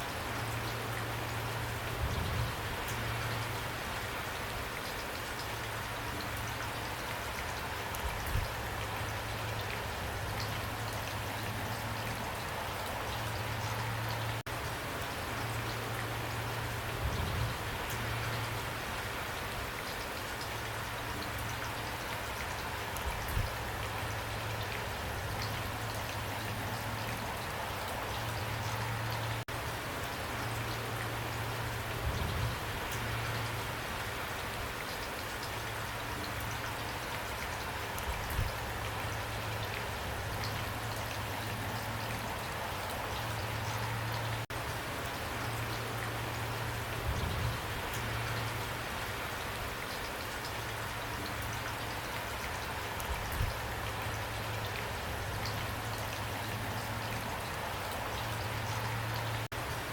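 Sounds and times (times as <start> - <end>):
pouring rain: 0.0 - 59.9.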